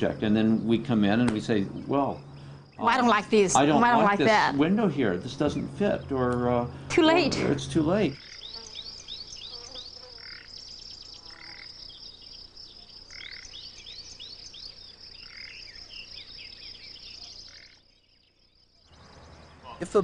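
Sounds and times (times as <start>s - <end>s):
birds chirping: 0.0s - 20.0s
insects trilling: 0.0s - 20.0s.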